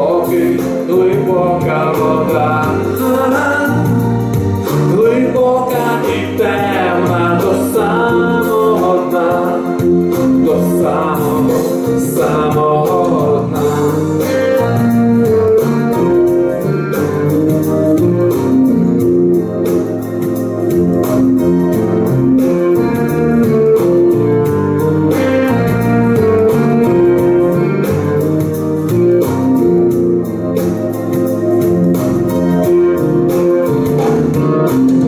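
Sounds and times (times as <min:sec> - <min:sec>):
instrumental pop music with organ: 0:00.0 - 0:35.0.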